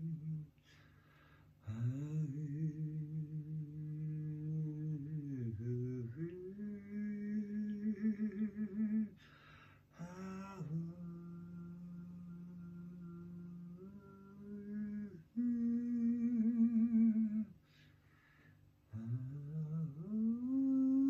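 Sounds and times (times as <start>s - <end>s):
person humming: 0.0s - 0.6s, 1.6s - 9.2s, 10.0s - 17.6s, 18.9s - 21.0s.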